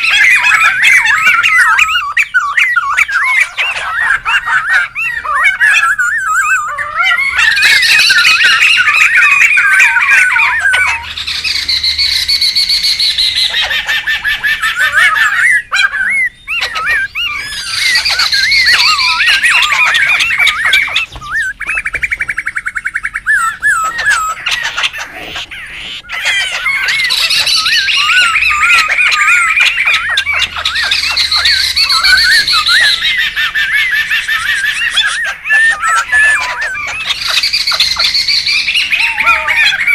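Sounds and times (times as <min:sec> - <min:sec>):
birds chattering and squawking: 0:00.0 - 0:39.9
fast bird trill: 0:00.0 - 0:39.9.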